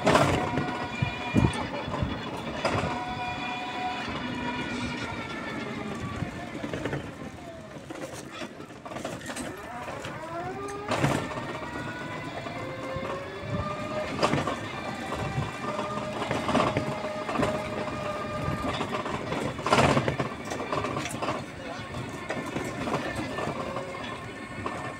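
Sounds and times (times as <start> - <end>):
small motorcycle engine running: 0.0 - 24.9.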